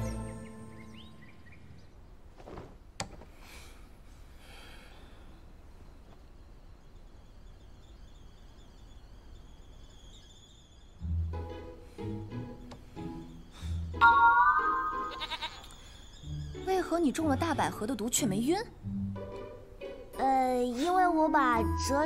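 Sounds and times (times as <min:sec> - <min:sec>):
faint background ambience: 0:00.0 - 0:22.0.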